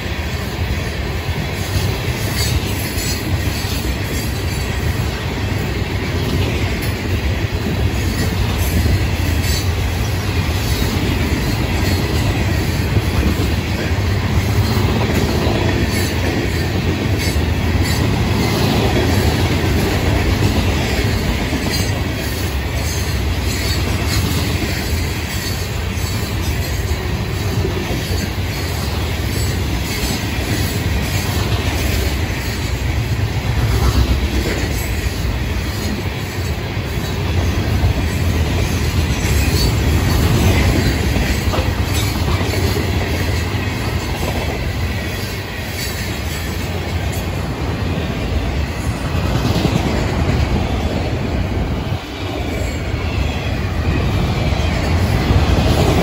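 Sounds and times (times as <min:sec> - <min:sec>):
freight cars rumbling on rails: 0:00.0 - 0:56.0.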